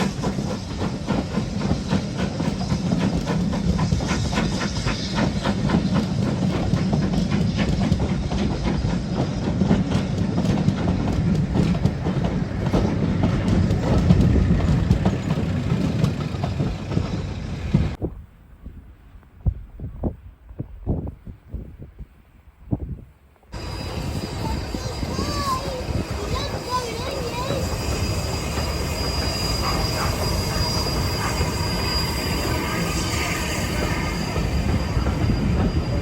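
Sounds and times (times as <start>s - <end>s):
train wheels clicking on rails: 0.0s - 18.0s, 23.4s - 36.0s.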